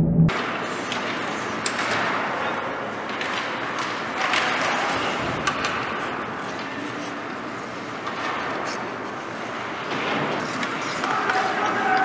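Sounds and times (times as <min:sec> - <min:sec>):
hockey sticks and puck clacking: 0:00.8 - 0:12.0.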